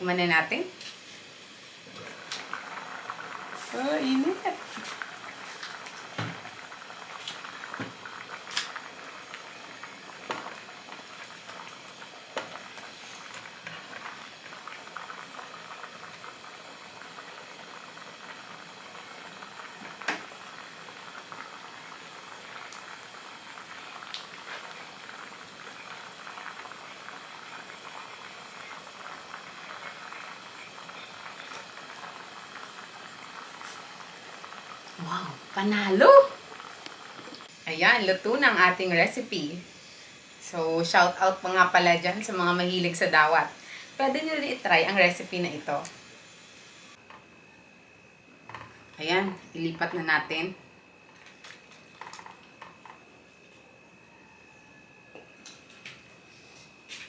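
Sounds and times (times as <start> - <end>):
pot simmering and bubbling: 0.0 - 56.8.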